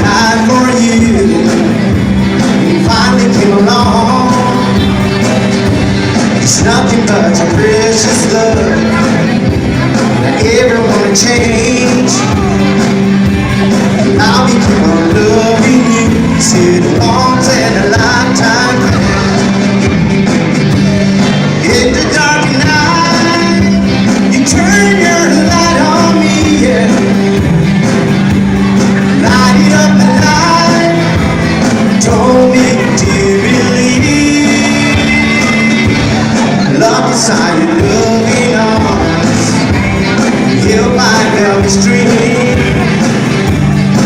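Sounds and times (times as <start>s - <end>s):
steady drum beat: 0.0s - 44.0s
sustained bass: 0.0s - 44.0s
vocal or melodic line: 0.0s - 44.0s.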